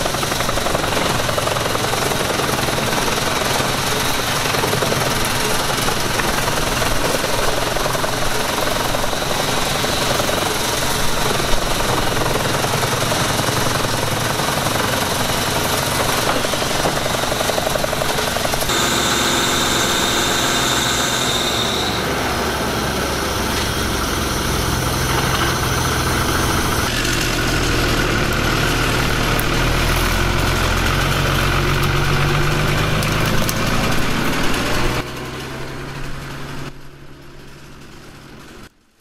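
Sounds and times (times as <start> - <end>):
tractor diesel engine: 0.0 - 38.8
wood chipper running: 0.0 - 38.8.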